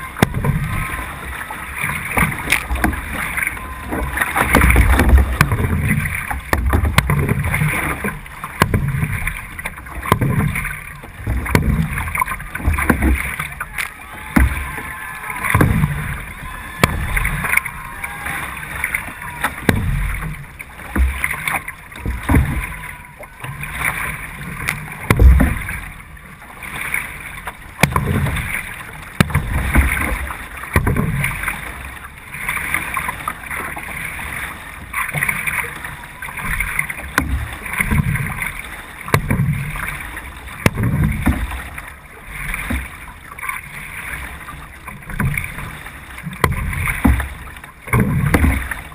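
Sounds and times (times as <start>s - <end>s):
paddle splashing through water: 0.0s - 48.9s
water washing along hull: 0.0s - 48.9s.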